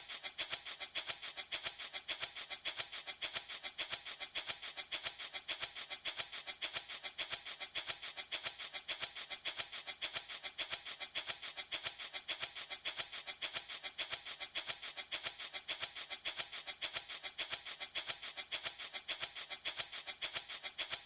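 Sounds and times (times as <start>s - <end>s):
baby rattle shaken: 0.0s - 21.0s.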